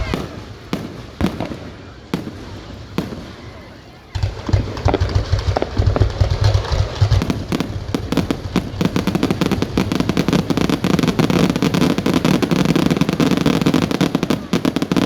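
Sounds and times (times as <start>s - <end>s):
fireworks crackling bangs: 0.0s - 15.0s.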